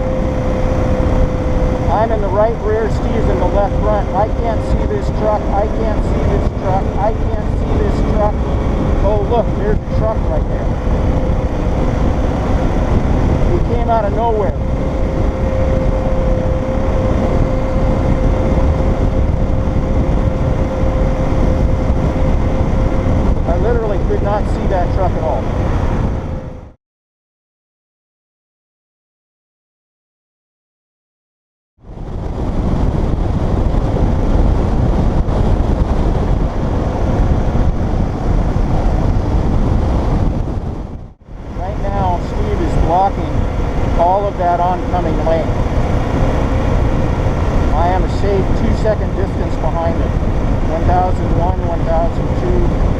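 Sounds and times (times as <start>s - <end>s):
constant-pitch hum: 0.0s - 26.7s, 31.9s - 52.9s
motorcycle engine rumble: 0.0s - 26.7s, 31.9s - 52.9s
road and wind noise: 0.0s - 26.8s, 31.8s - 52.9s.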